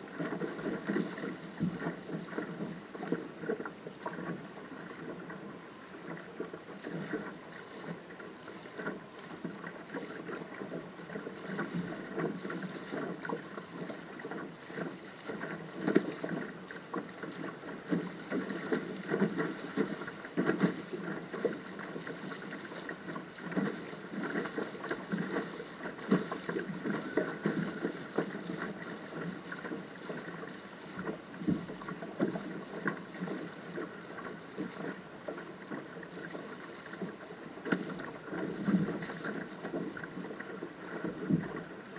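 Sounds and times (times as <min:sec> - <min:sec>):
water slapping against hull: 0:00.0 - 0:41.9
water splashes and spray: 0:00.0 - 0:41.9.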